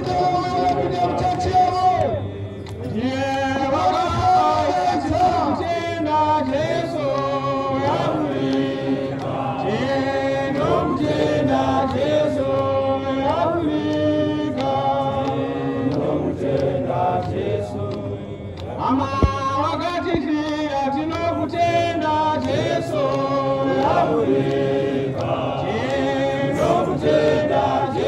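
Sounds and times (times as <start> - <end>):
men singing a hymn: 0.0 - 28.0.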